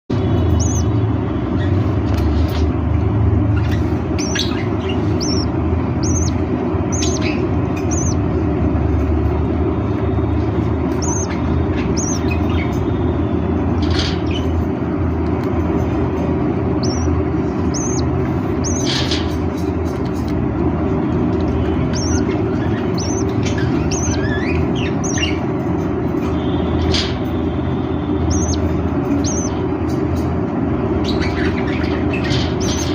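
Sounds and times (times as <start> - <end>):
budgerigars chirping: 0.1 - 32.9
loud low rumble: 0.1 - 32.9.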